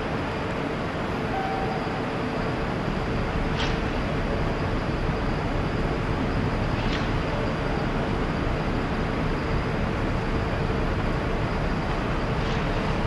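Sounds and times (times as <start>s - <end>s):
city traffic rumble: 0.0s - 13.0s
faint steady hum: 0.0s - 13.0s.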